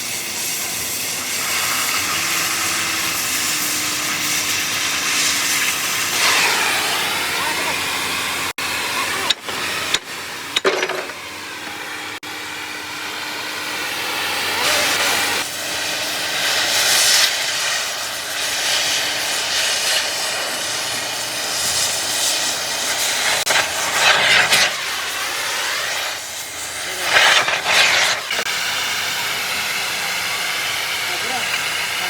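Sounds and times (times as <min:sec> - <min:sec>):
hissing air blasts: 0:00.0 - 0:32.0.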